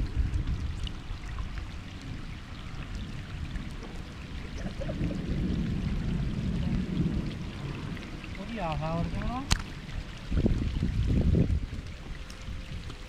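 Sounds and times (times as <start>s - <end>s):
light water sounds: 0.0s - 13.0s
wind rumbling on microphone: 0.0s - 13.0s.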